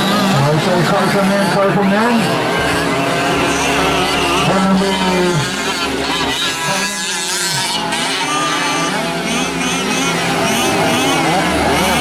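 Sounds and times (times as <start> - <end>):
rc truck engines revving: 0.0 - 12.0.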